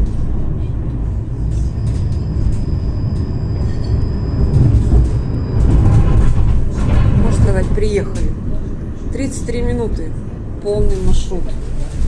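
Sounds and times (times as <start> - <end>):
tram rumbling along rails: 0.0 - 12.0.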